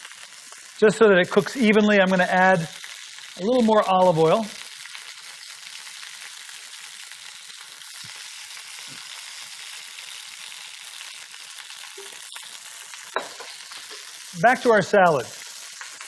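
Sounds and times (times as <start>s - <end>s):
food sizzling on grill pan: 0.0s - 16.0s.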